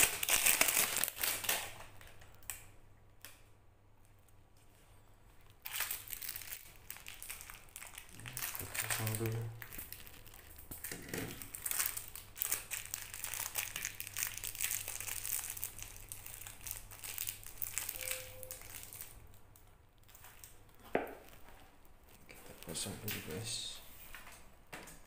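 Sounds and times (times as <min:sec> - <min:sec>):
plastic wrapping crinkling: 0:00.0 - 0:02.7, 0:04.1 - 0:25.0.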